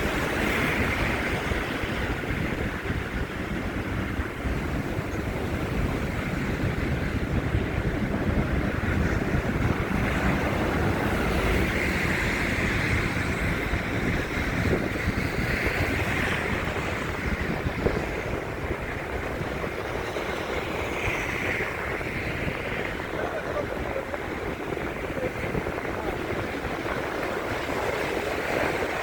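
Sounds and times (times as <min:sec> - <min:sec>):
wind on microphone: 0:00.0 - 0:29.0.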